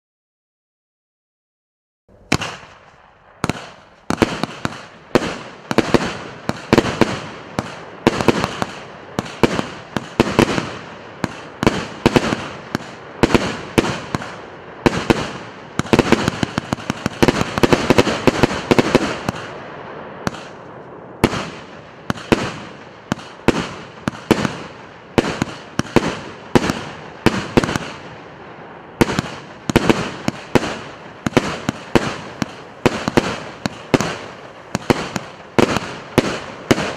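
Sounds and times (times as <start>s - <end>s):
firework bangs: 2.1s - 36.9s.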